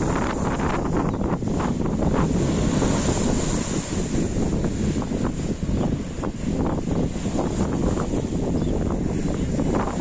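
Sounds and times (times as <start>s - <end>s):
storm surf breaking over sea wall: 0.0s - 10.0s
wind rumbling on microphone: 0.0s - 10.0s.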